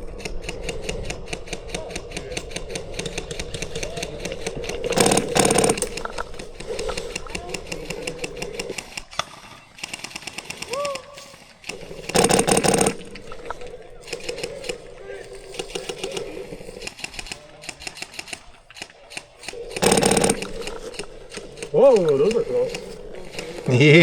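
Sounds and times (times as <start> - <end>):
airsoft guns firing full auto: 0.0 - 24.0.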